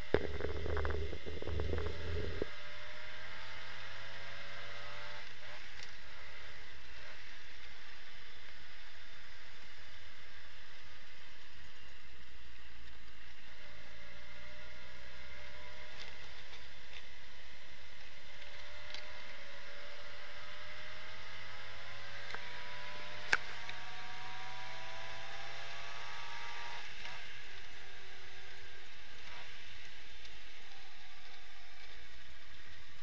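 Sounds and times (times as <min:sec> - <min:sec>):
car engine while driving: 0:00.0 - 0:33.0.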